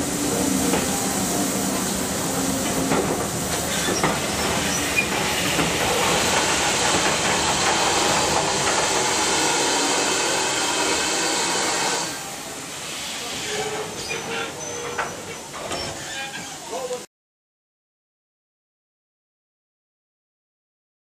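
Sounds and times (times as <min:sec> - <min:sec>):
train running hiss: 0:00.0 - 0:17.0.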